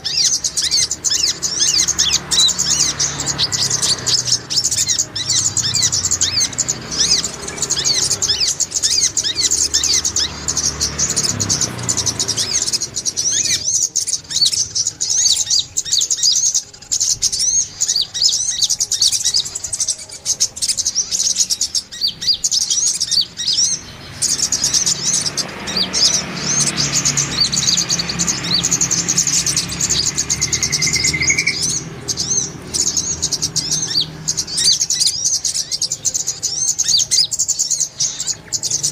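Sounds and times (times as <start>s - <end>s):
sunbirds chirping rapidly: 0.0s - 38.9s.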